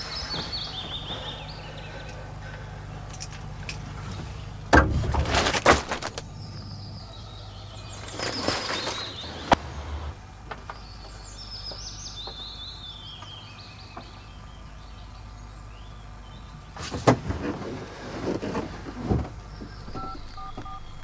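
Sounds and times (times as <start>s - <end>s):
birds chirping: 0.0s - 4.8s, 6.2s - 16.9s, 19.3s - 21.0s
low engine rumble: 0.0s - 21.0s.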